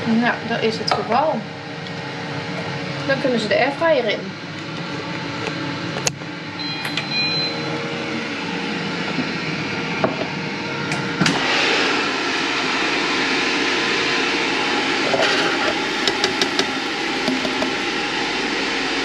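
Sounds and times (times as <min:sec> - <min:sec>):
airfryer fan rushing hum: 0:00.0 - 0:19.0.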